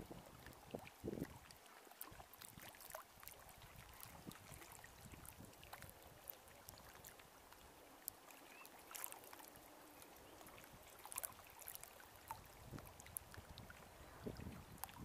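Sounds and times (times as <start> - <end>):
small waves lapping on rocks: 0.0 - 15.0.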